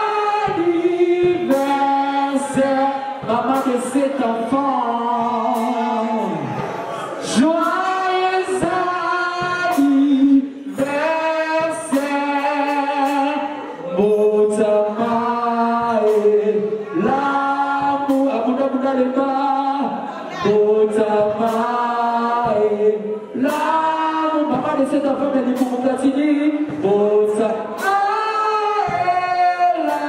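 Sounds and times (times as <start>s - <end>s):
voices singing in harmony: 0.0s - 30.0s.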